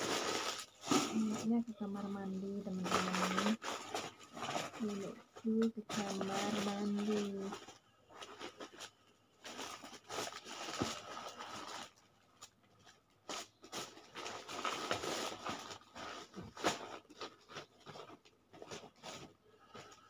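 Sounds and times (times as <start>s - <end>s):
plastic packets rustling: 0.0s - 20.0s.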